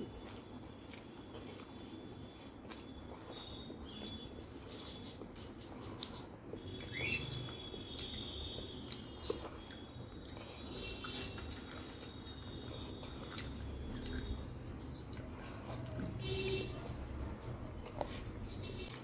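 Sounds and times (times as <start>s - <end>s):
quiet chewing: 0.0s - 19.0s.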